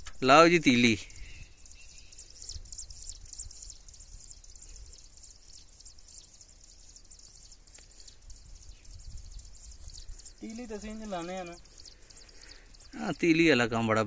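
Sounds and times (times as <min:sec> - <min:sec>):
high insect chirring: 0:00.0 - 0:13.7.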